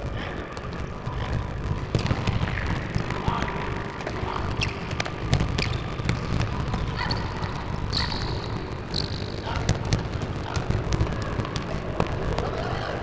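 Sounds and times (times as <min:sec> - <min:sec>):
steady low hum: 0:00.0 - 0:13.0
sneakers squeaking: 0:00.4 - 0:13.0.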